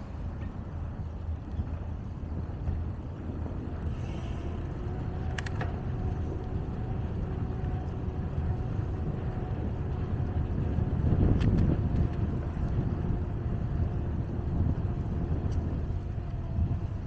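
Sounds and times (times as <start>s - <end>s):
bicycle tyre noise on path: 0.0s - 17.0s
wind rumble on microphone: 0.0s - 17.0s.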